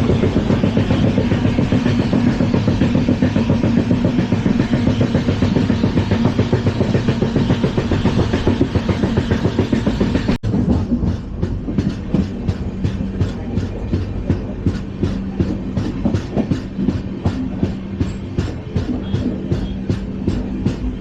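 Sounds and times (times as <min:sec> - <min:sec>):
rapid regular wheel clatter: 0:00.0 - 0:21.0
train wheels rumbling on rails: 0:00.0 - 0:21.0.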